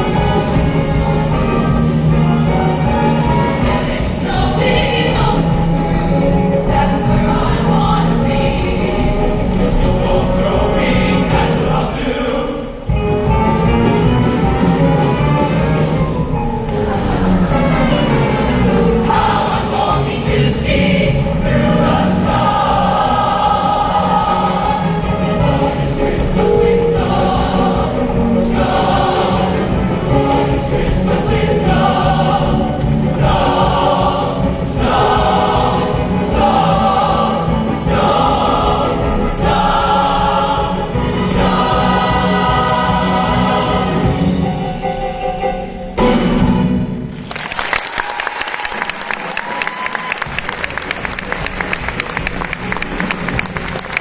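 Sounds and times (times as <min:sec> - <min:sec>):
choir singing: 0:00.0 - 0:47.2
instrumental accompaniment: 0:00.0 - 0:47.2.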